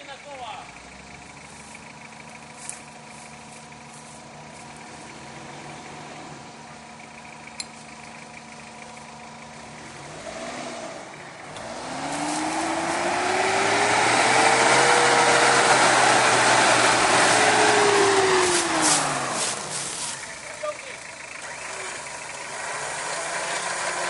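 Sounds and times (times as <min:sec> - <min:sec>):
engine revving: 0:00.0 - 0:24.0.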